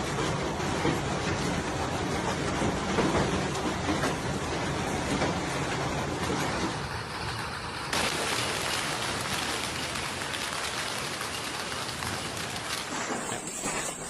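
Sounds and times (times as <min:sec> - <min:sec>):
heavy rain with storm wind: 0:00.0 - 0:13.3.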